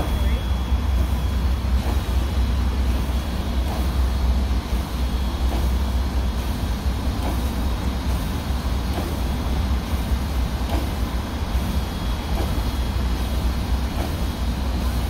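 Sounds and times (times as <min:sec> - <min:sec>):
locomotive low rumble: 0:00.0 - 0:15.0
steam hissing: 0:00.0 - 0:15.0.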